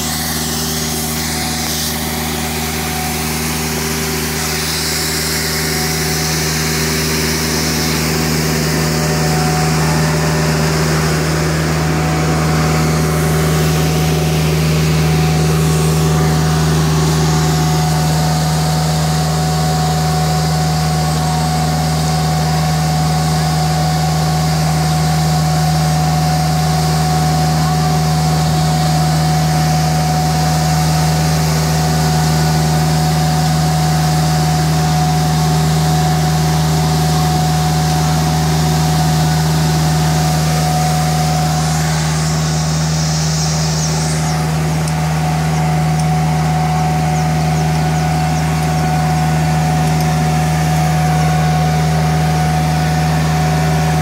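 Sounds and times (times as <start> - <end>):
floor scrubber machine droning: 0.0 - 54.0.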